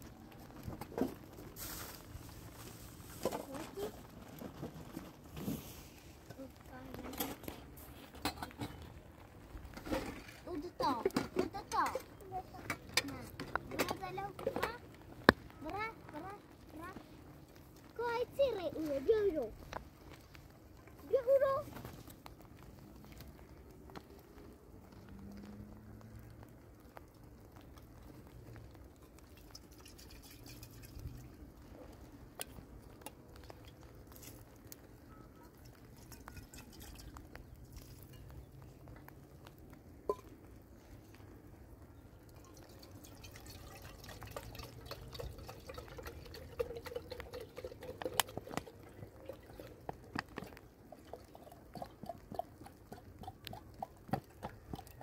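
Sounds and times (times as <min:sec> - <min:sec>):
water dripping and splashing: 0:00.0 - 0:55.0.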